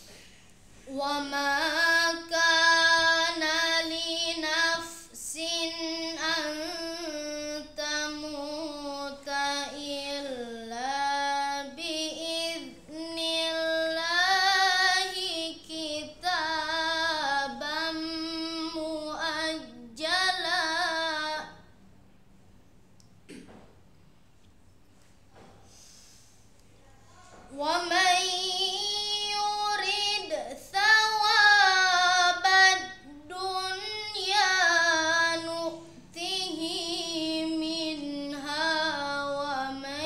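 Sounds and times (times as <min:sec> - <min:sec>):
boy chanting recitation: 0:00.8 - 0:21.8, 0:26.8 - 0:40.0.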